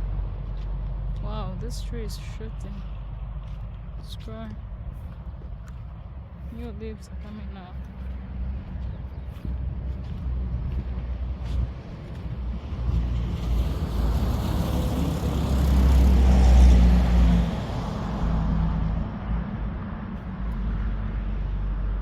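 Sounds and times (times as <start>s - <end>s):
motor vehicle passing: 0.0s - 22.0s
wind rumble on microphone: 0.0s - 22.0s.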